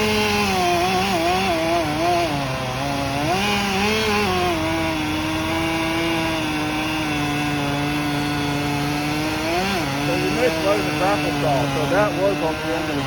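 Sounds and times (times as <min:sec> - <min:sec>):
two-stroke chainsaw running: 0:00.0 - 0:13.0.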